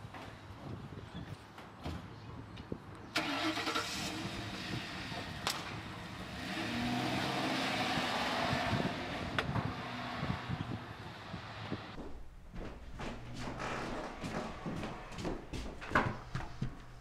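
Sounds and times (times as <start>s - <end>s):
car engine starting and running: 3.2s - 17.0s.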